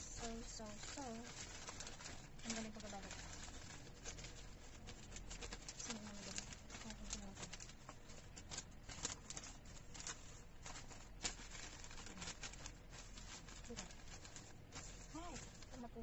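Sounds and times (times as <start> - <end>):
wrapping paper rustling: 0.0 - 16.0.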